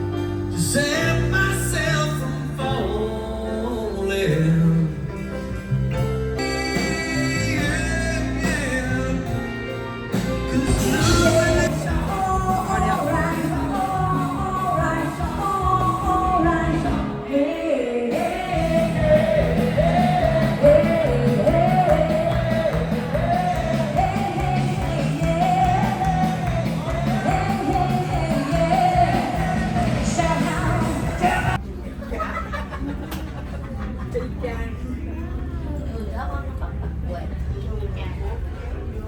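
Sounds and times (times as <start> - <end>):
pop-rock song with vocals: 0.0 - 31.6.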